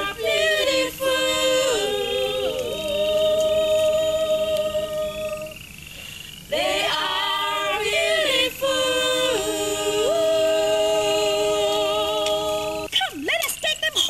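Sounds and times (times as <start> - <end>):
person singing unaccompanied: 0.0 - 12.9.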